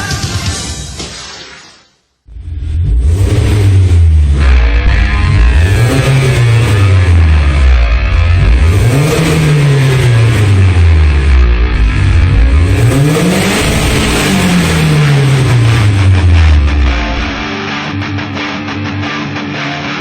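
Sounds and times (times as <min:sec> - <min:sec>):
car engine revving: 0:02.3 - 0:19.2.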